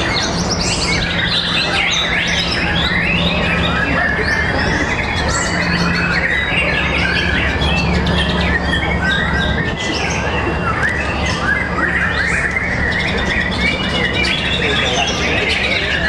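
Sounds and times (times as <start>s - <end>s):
birds singing whistles and trills: 0.0s - 16.0s
steady low hum: 0.0s - 16.0s.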